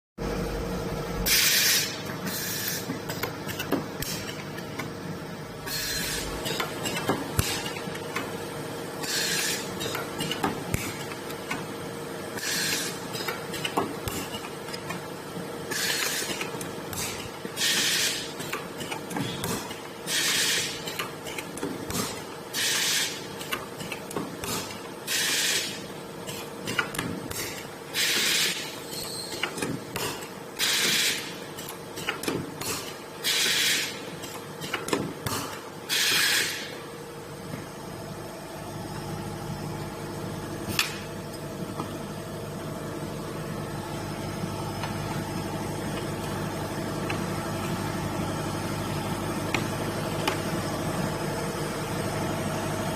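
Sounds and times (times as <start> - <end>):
welding machine hum: 0.2 - 52.9.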